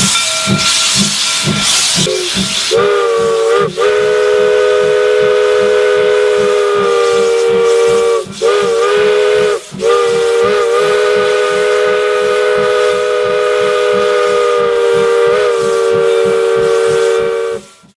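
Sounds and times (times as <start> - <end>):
locomotive exhaust chuffs: 0.0 - 18.0
steam locomotive whistle: 0.0 - 18.0.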